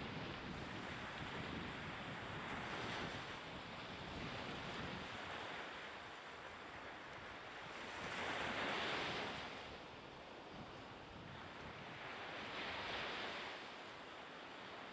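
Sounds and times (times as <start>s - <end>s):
small waves washing on shore: 0.0s - 14.9s
wind: 0.0s - 14.9s.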